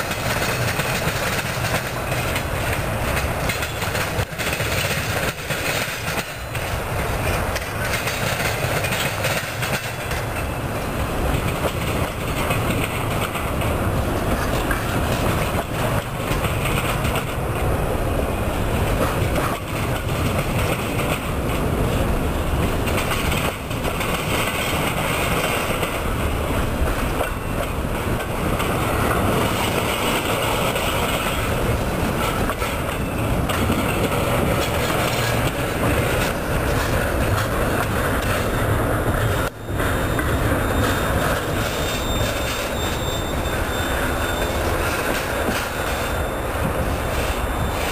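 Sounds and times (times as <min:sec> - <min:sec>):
train wheels clattering on track: 0:00.0 - 0:47.9.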